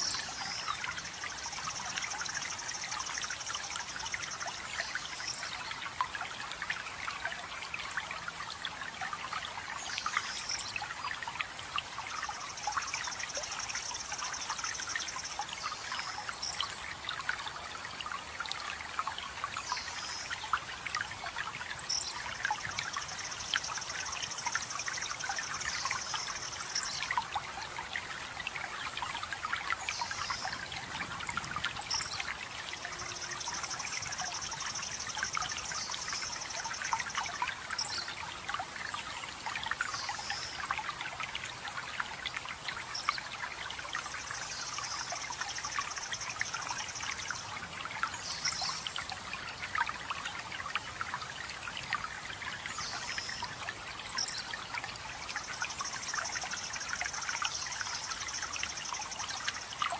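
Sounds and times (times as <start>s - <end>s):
stream trickling and splashing: 0.0s - 59.9s.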